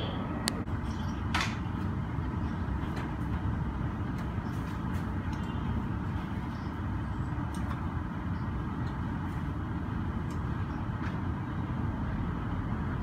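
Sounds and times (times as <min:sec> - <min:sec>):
aircraft and ground vehicle rumble: 0:00.0 - 0:13.0.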